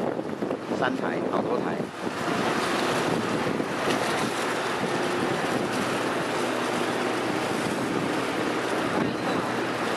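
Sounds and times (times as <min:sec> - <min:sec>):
boat engine running: 0:00.0 - 0:09.9
water rushing: 0:00.0 - 0:09.9
wind: 0:00.0 - 0:09.9.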